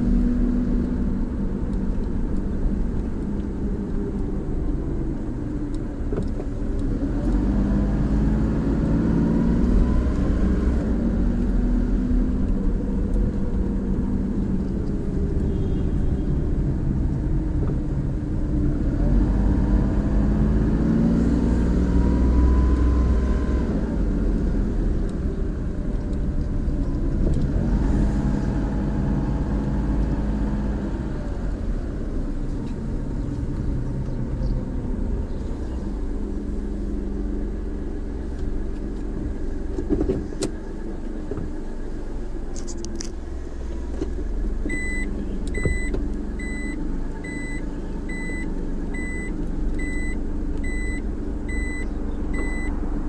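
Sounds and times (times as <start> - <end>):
engine and tyre rumble: 0.0 - 53.0.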